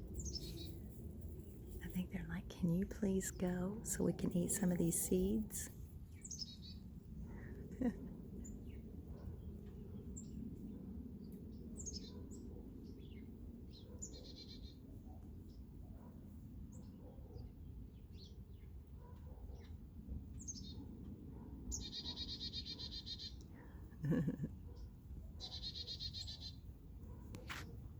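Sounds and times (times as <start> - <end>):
songbirds chirping: 0.0 - 27.8.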